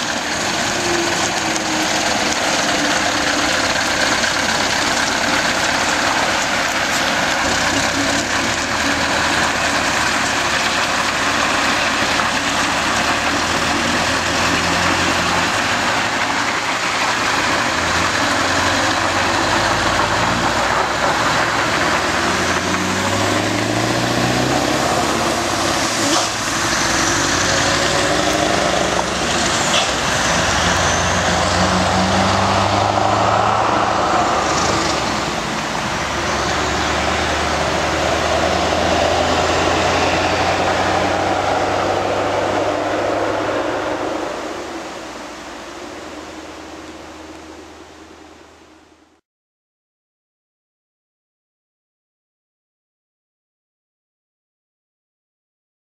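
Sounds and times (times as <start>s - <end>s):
diesel truck engine accelerating: 0.0s - 49.2s.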